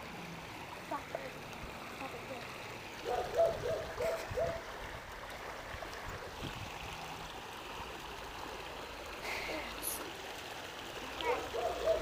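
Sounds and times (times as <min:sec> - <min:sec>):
creek water rippling over rocks: 0:00.0 - 0:12.0.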